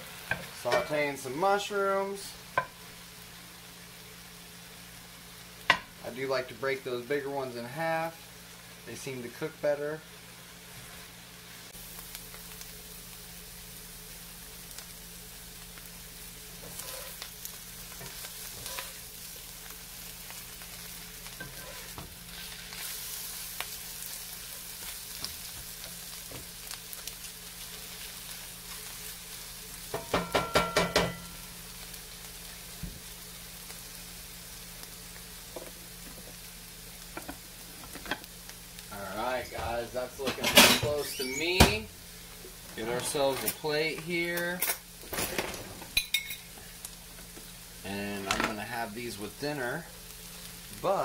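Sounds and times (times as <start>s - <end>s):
mushrooms sizzling in a skillet: 0.0s - 51.0s.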